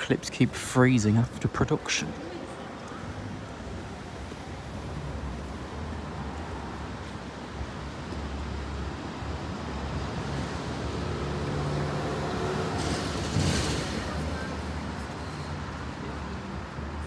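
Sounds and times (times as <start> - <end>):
low road traffic rumble: 0.0 - 17.0.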